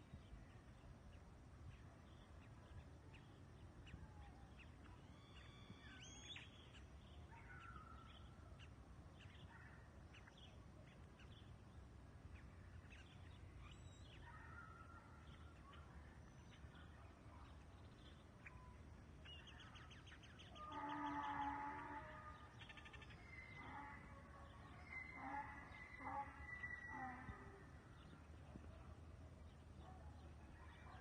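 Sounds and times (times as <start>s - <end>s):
faint birdsong chirps: 0.0s - 31.0s
low steady background rumble: 0.0s - 31.0s.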